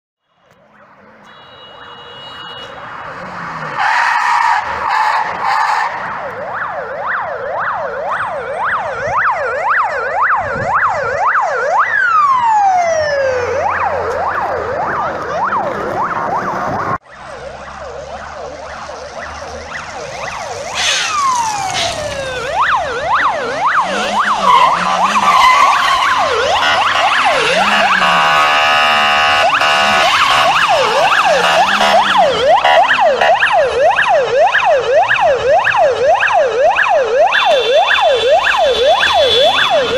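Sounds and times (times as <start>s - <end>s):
police siren yelping: 2.9s - 39.9s.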